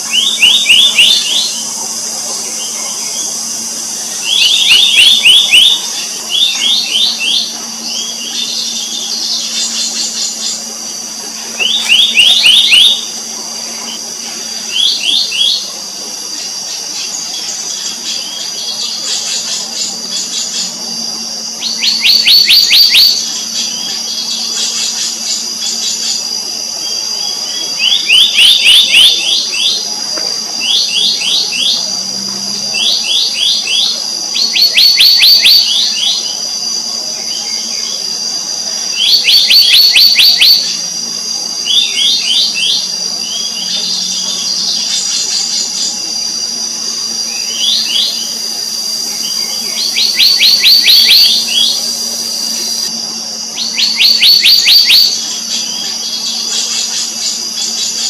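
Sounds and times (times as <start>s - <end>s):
high-pitched drone: 0.0s - 58.0s.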